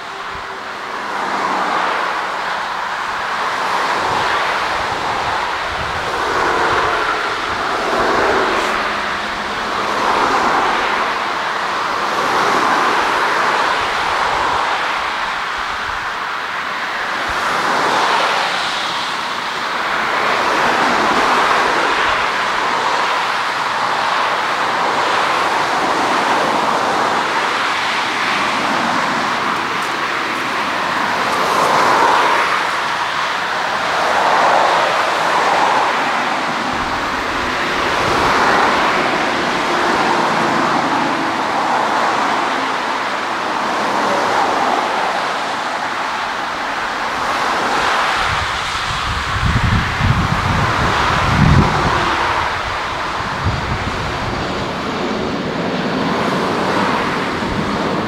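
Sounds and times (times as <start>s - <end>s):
jet engine rushing: 0.0s - 58.0s.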